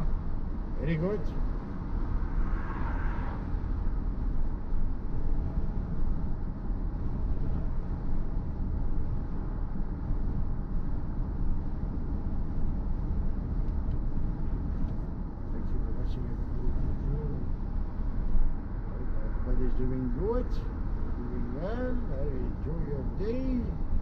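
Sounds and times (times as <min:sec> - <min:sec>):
car road and tyre rumble: 0:00.0 - 0:24.0.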